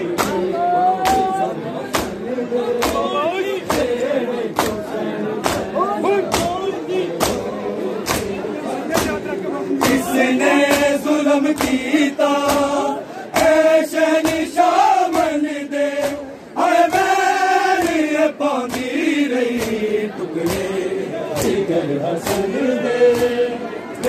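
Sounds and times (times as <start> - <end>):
men chanting together: 0.0 - 24.0
chest-beating slaps: 0.1 - 2.2, 2.8 - 4.8, 5.4 - 15.4, 16.0 - 16.3, 17.8 - 23.4.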